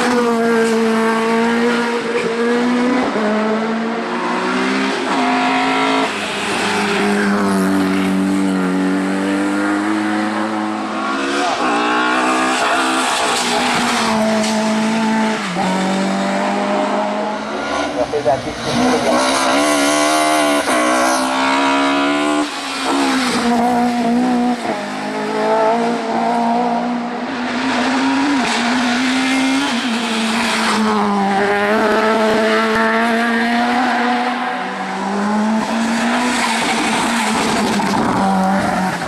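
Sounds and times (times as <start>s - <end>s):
racing car engines revving: 0.0s - 39.0s.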